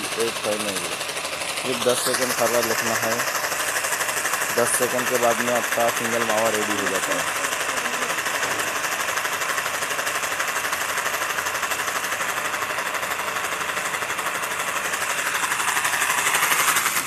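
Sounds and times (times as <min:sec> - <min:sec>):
mixing machine rattling: 0:00.0 - 0:17.0.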